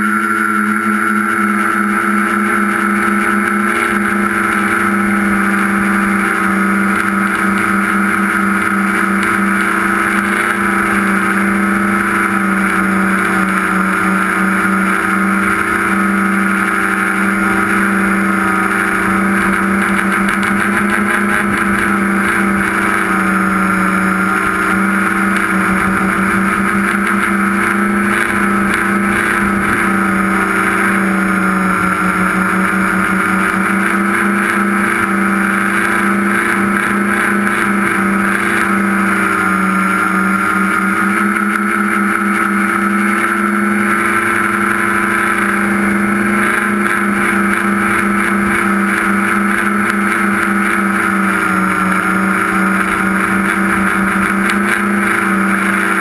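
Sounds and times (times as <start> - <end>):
drone motors buzzing: 0.0 - 56.0.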